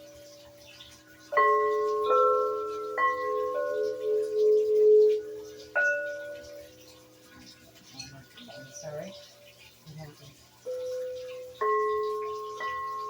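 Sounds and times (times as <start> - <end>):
metal chimes ringing: 0.0 - 9.6, 10.7 - 13.0.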